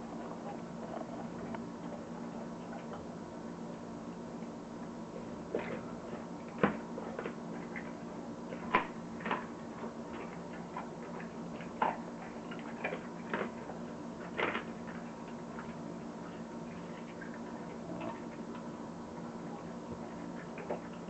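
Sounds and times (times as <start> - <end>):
dog chewing and crunching bones: 0.0 - 3.9, 5.1 - 21.0.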